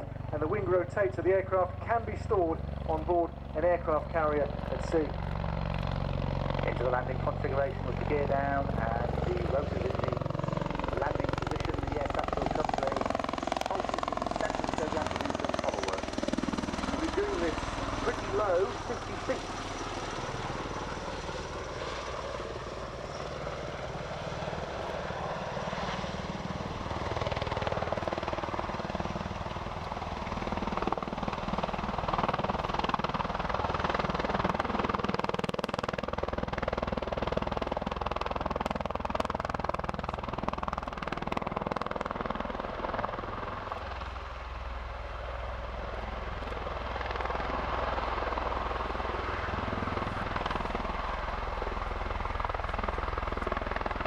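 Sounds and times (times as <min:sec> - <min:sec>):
tiltrotor aircraft hovering: 0:00.0 - 0:54.0.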